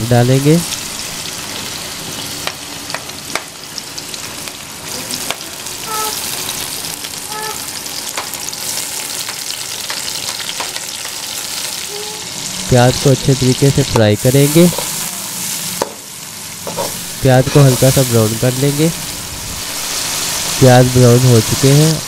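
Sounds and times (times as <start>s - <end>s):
onions sizzling in hot fat: 0.0s - 22.0s.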